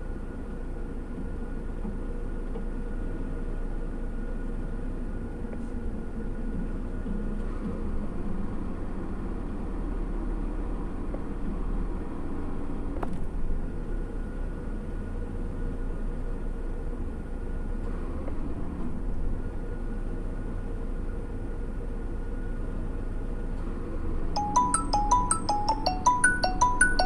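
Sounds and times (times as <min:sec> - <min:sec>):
engine idling inside cabin: 0:00.0 - 0:27.0.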